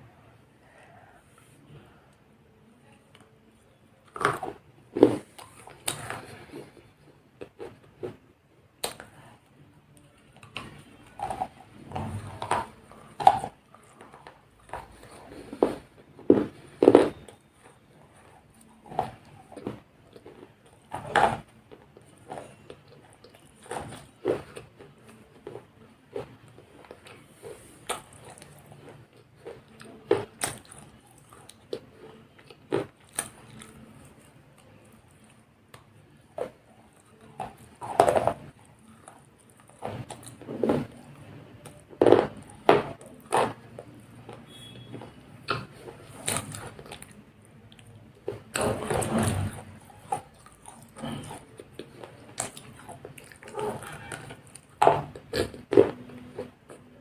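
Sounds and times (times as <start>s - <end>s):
chewing: 2.9s - 8.2s, 9.9s - 57.0s
chocolate wafer crunching: 3.0s - 57.0s.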